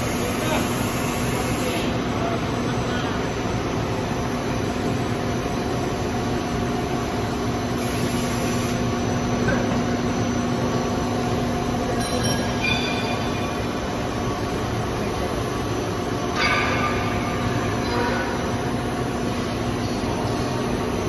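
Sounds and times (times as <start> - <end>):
machine whirring and humming: 0.0 - 21.0.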